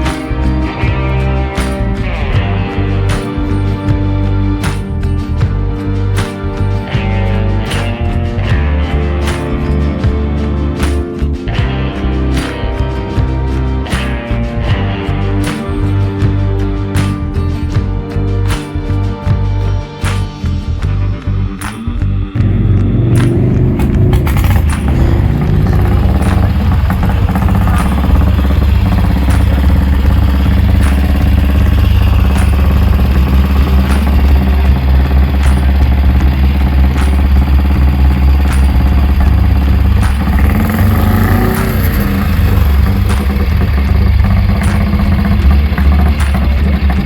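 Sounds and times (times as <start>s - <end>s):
motorcycle engine rumbling: 0.0s - 18.0s, 21.9s - 47.0s.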